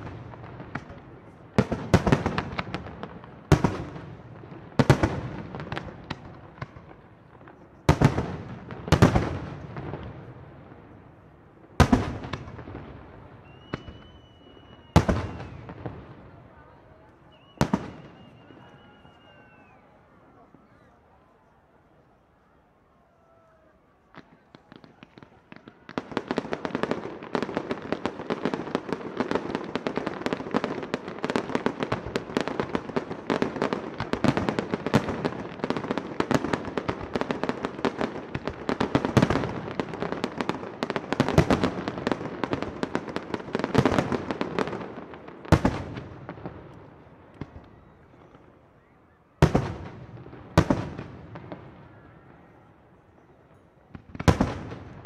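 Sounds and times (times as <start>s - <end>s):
loud firework bangs: 0.0s - 11.0s, 11.7s - 16.7s, 17.3s - 19.7s, 24.1s - 48.5s, 49.4s - 52.6s, 53.9s - 55.0s
fireworks cracking and popping: 0.0s - 19.8s, 24.0s - 48.8s, 49.4s - 55.0s.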